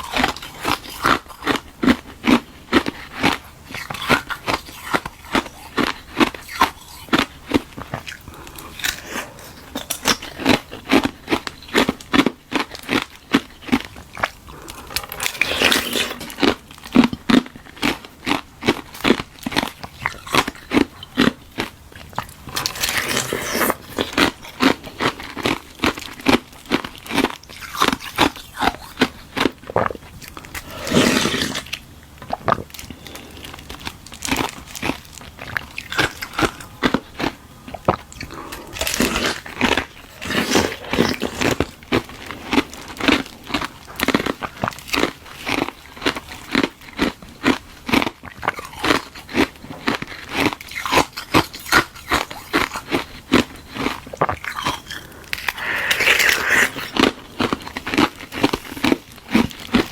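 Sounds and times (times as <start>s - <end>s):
ice crunching while chewed: 0.0s - 59.9s.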